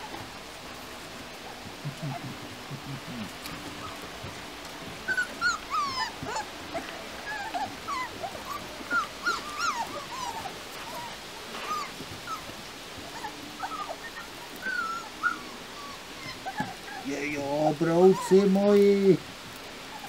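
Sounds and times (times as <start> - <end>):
puppies whimpering and yelping: 0.0 - 20.0.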